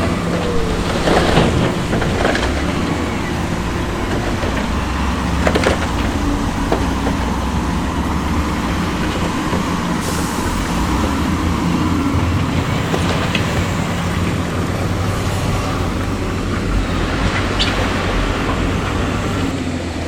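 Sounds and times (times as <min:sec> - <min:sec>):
diesel construction machinery running: 0:00.0 - 0:20.0.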